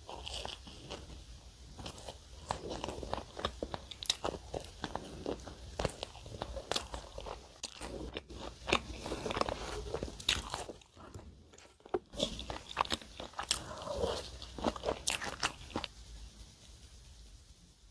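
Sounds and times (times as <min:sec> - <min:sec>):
crunching bread crust: 0:00.0 - 0:16.0.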